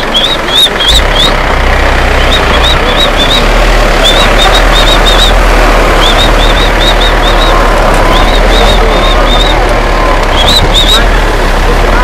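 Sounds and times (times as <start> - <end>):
road and wind noise: 0.0 - 12.0
truck engine running: 0.0 - 12.0.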